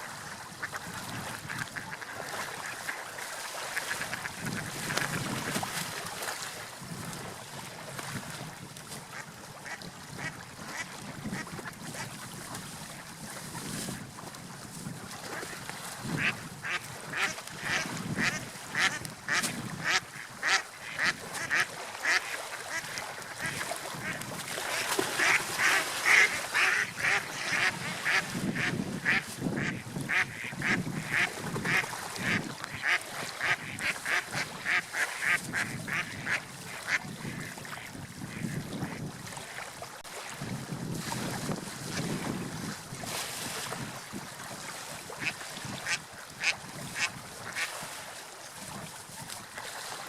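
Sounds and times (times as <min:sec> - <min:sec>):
wind and water hiss: 0:00.0 - 0:50.0.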